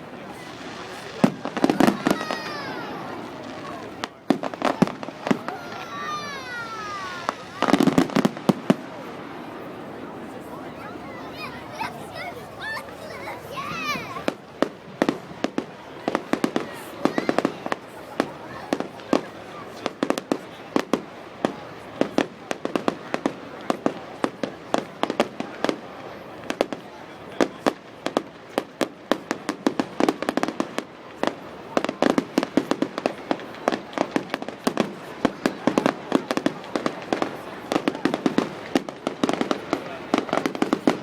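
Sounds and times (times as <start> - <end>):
fireworks bangs and cracks: 0.0 - 41.0.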